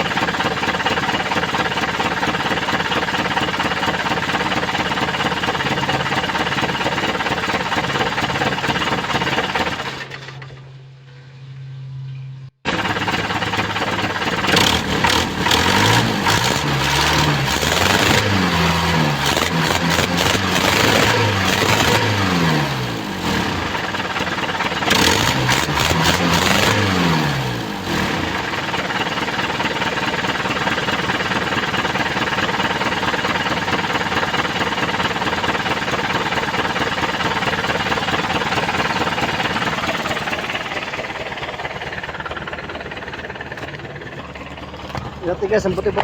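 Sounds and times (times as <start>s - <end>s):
diesel engine revving and idling: 0.0s - 10.5s, 12.7s - 46.0s.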